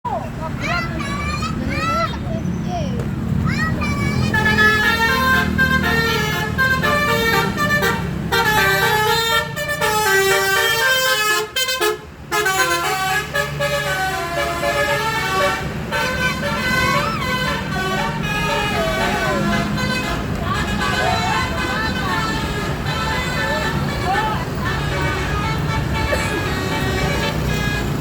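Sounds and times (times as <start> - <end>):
bus engine hum: 0.1 - 28.0
musical bus horn playing a tune: 4.3 - 28.0.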